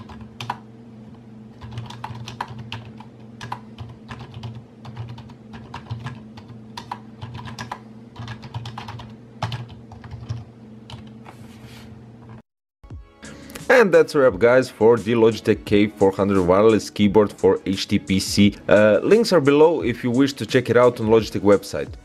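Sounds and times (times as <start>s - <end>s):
steady low hum: 0.0s - 12.4s, 13.2s - 22.0s.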